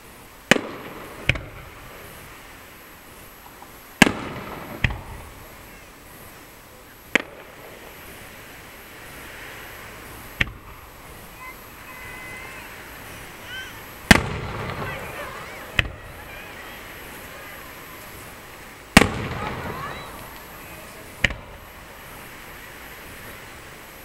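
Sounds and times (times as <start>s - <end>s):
firework shells bursting: 0.4s - 24.0s.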